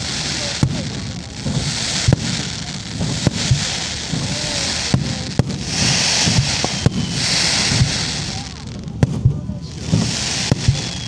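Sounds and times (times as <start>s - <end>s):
firework shells bursting: 0.0s - 11.0s
steady hiss: 0.0s - 11.0s.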